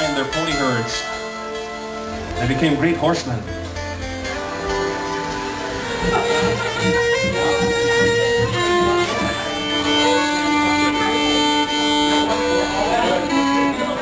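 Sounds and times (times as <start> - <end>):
fiddle long-held notes: 0.0 - 14.0.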